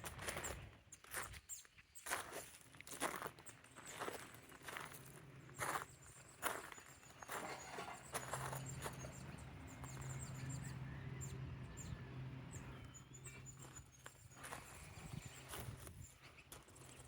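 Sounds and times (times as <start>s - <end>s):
footsteps on a path: 0.0s - 11.4s, 12.5s - 17.0s.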